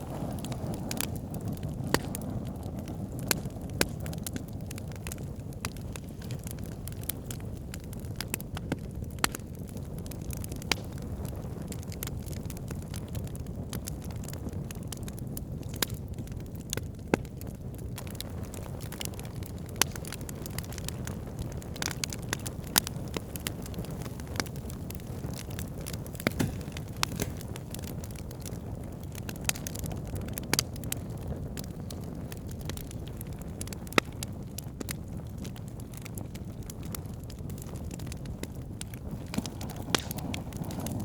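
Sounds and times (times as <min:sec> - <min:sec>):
burning wood crackling: 0:00.0 - 0:41.0
campfire flames rumbling: 0:00.0 - 0:41.0.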